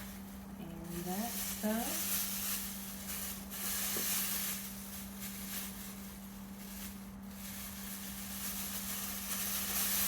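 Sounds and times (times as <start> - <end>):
low electrical hum: 0.0 - 10.0
packaging rustling and crinkling: 0.0 - 10.0.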